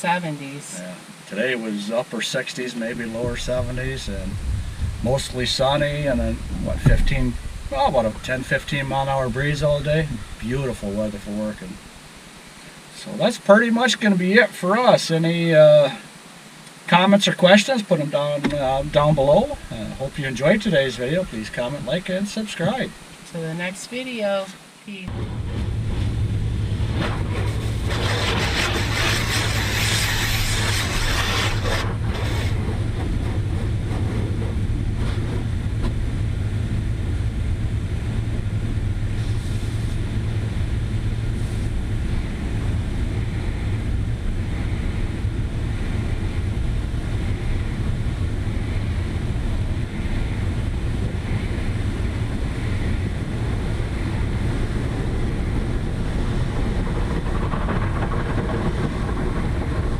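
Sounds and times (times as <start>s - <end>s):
truck engine and road rumble: 0.0s - 13.9s, 17.6s - 59.9s
wind-like hiss: 0.0s - 59.9s.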